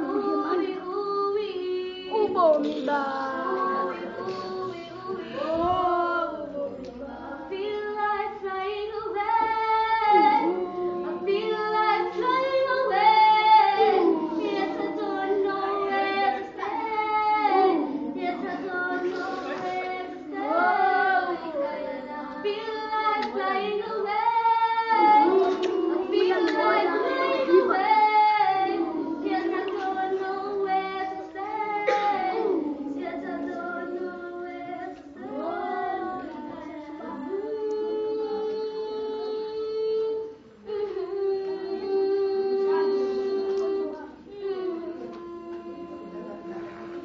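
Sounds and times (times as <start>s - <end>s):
children singing: 0.0s - 47.0s.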